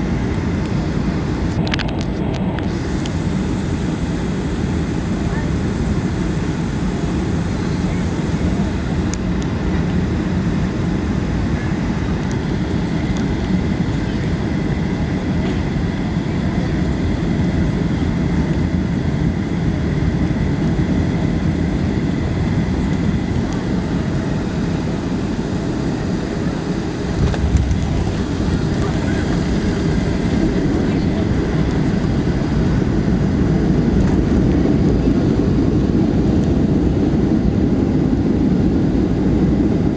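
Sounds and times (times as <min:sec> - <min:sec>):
faint steady whine: 0:00.0 - 0:39.9
jet engine and airflow rumble: 0:00.0 - 0:39.9.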